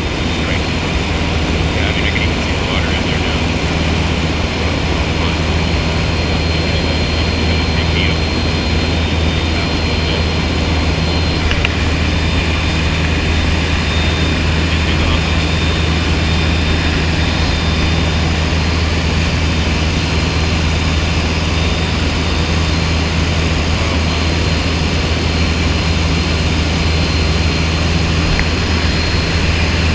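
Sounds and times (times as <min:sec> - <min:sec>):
aircraft engine drone: 0:00.0 - 0:29.9.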